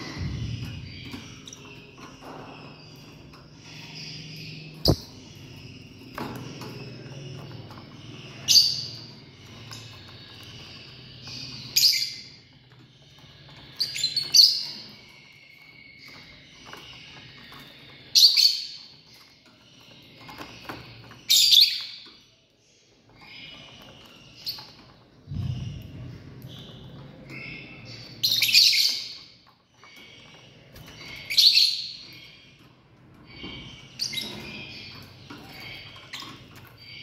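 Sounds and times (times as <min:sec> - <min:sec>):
soft continuous bird twittering: 0:00.0 - 0:37.0.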